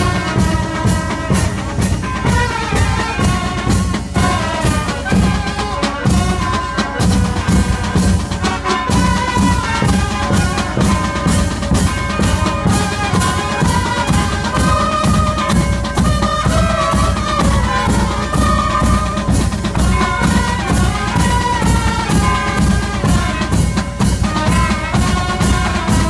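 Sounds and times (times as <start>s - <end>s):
brass melody: 0.0s - 26.0s
drums beating march rhythm: 0.0s - 26.0s.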